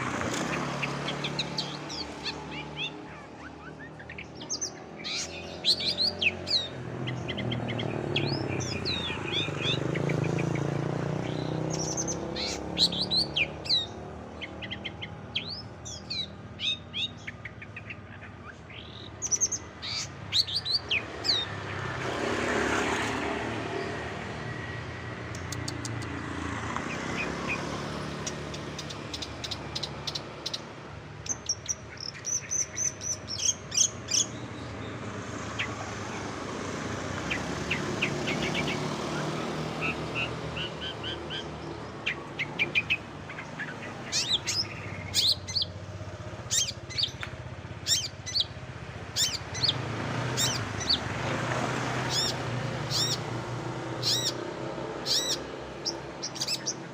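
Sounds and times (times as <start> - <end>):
bird singing chirps and trills: 0.0 - 56.9.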